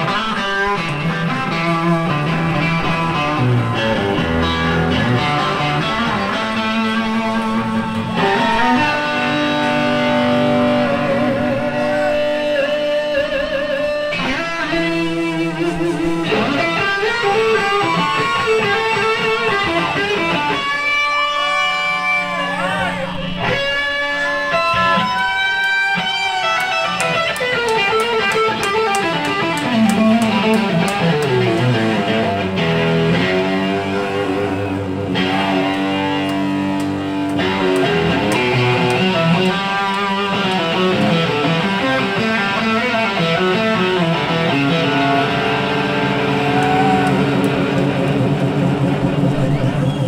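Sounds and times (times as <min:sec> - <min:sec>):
soul band playing: 0:00.0 - 0:22.4, 0:23.1 - 0:49.9
electric guitar solo: 0:00.0 - 0:50.0.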